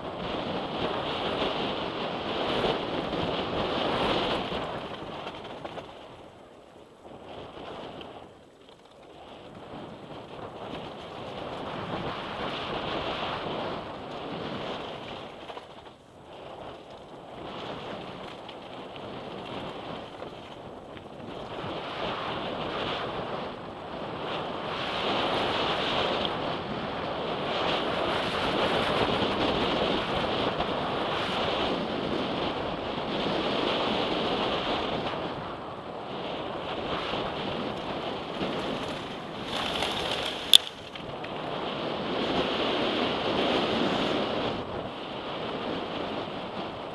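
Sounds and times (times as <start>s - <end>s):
bike tyres rumbling on gravel: 0.0s - 46.9s
wind rushing over microphone: 0.0s - 46.9s.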